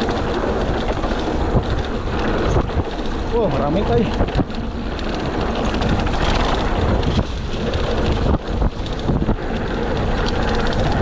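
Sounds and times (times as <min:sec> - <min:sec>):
mountain bike rattling and knocking: 0:00.0 - 0:11.0
wind over microphone: 0:00.0 - 0:11.0.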